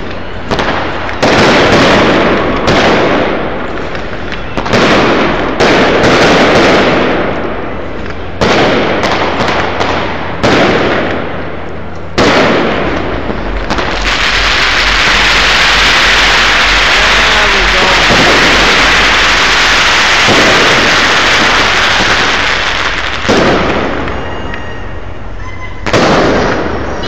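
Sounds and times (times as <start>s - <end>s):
fireworks shells bursting: 0.0s - 27.0s.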